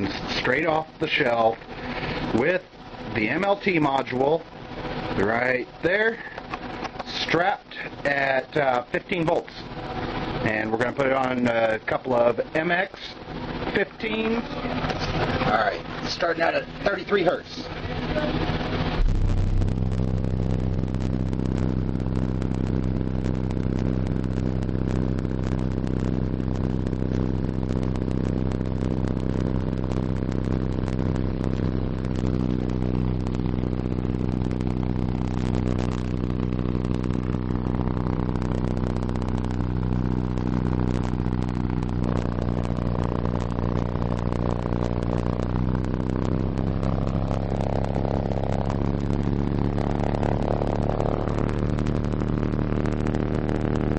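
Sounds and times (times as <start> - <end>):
distorted low bass tone: 0.0 - 53.9.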